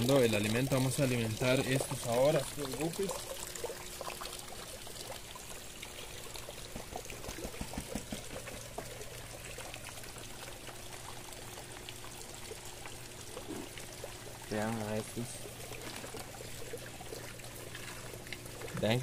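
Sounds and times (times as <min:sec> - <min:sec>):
water pouring and trickling: 0:00.0 - 0:19.0.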